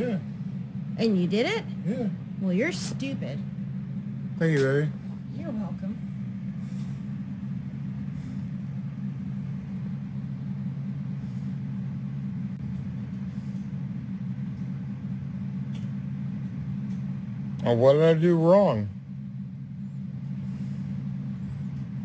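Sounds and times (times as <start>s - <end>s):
low droning hum: 0.0s - 22.0s.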